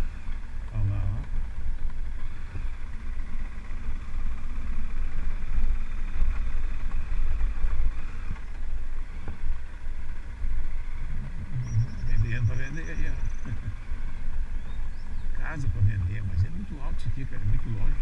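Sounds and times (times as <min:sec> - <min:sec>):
motorcycle riding over cobblestones: 0:00.0 - 0:15.4.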